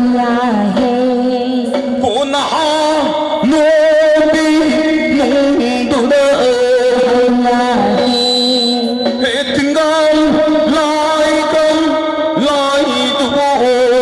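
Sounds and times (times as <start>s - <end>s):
voices singing long wavering notes: 2.3s - 14.0s.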